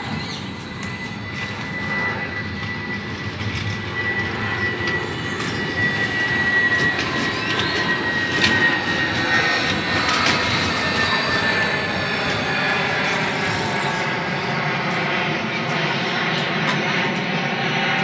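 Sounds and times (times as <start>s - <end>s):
jet rumble: 0.0s - 18.0s
thin high whine: 0.0s - 18.0s.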